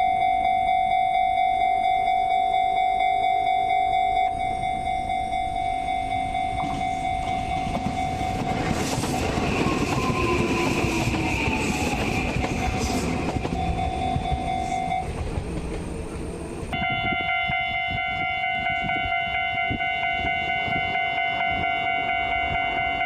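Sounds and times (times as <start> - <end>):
level-crossing alarm ringing: 0.0 - 15.2, 16.7 - 23.0
train rumbling past: 2.8 - 23.0.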